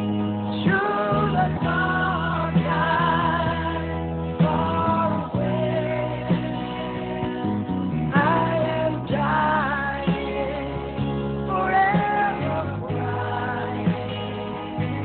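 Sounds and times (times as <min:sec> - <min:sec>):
song with singing over guitar: 0:00.0 - 0:15.0.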